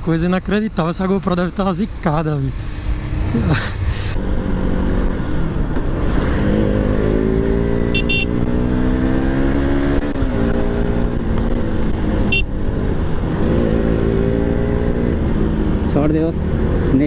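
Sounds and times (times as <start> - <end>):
wind and road rumble: 0.0 - 17.0
motorcycle engine accelerating: 2.8 - 17.0.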